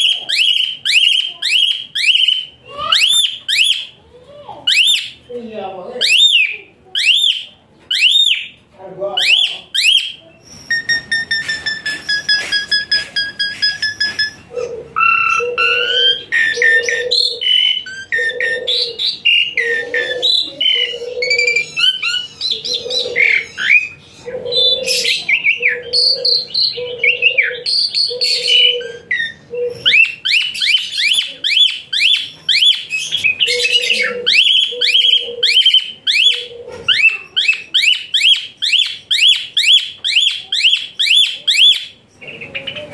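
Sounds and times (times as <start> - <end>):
starling singing whistles: 0.0 - 4.0, 4.7 - 5.2, 6.0 - 8.6, 9.2 - 42.8.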